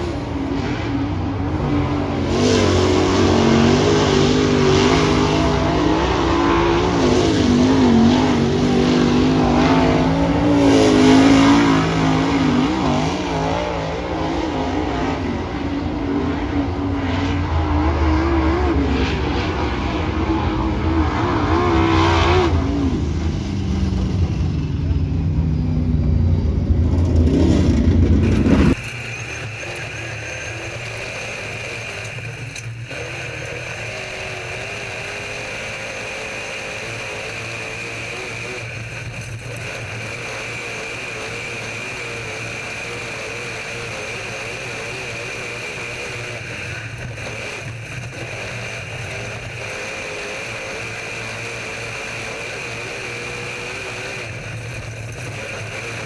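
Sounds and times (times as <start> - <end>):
race car engines: 0.0 - 56.0.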